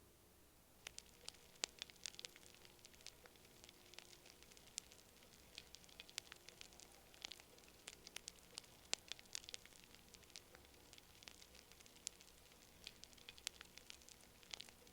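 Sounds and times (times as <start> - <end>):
faint hiss: 0.0 - 14.9
wood fire crackling: 0.7 - 14.9.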